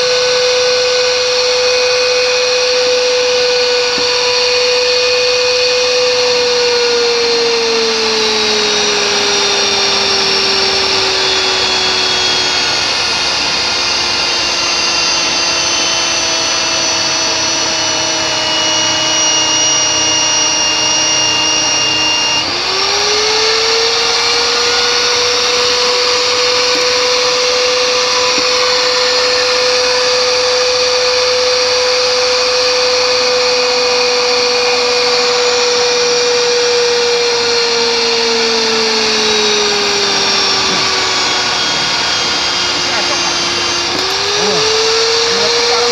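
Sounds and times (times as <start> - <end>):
pipe threading machine whine: 0.0 - 45.9.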